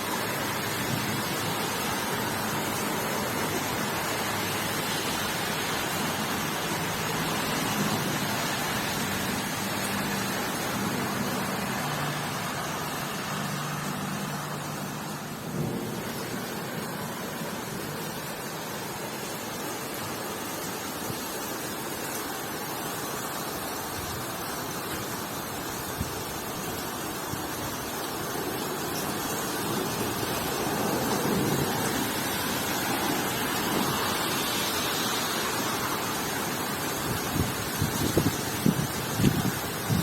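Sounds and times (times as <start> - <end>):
heavy rain pouring: 0.0 - 40.0
storm wind: 0.0 - 40.0.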